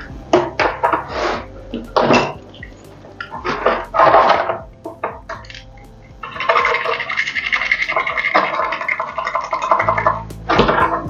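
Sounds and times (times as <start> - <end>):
wire scraping inside metal passages: 0.0 - 11.0.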